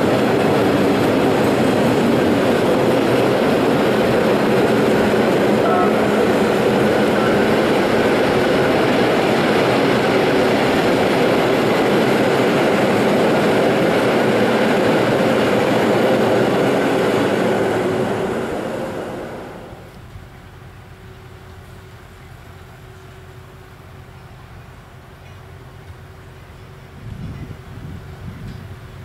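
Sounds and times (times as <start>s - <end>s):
freight train wheels rumbling: 0.0s - 29.0s.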